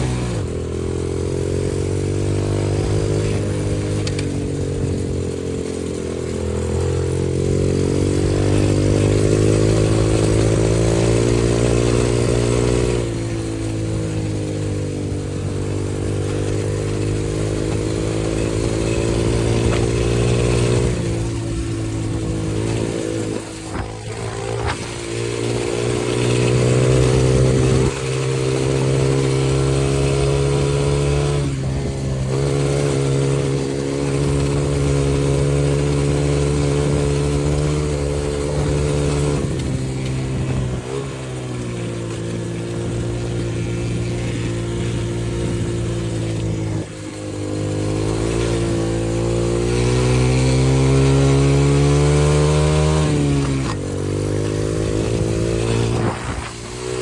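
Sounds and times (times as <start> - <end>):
dirt bike engine under throttle: 0.0 - 57.0.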